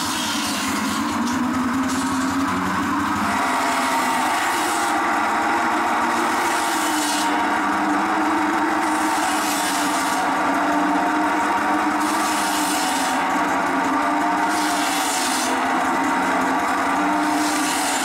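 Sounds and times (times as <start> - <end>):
circular saw cutting wood: 0.0 - 18.0.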